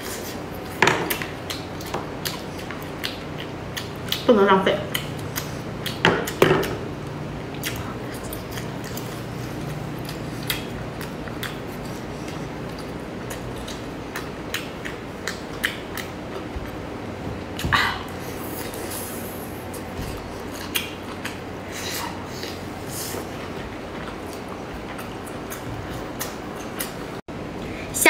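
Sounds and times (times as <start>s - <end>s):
person chewing seafood: 0.0s - 4.3s, 4.9s - 27.2s.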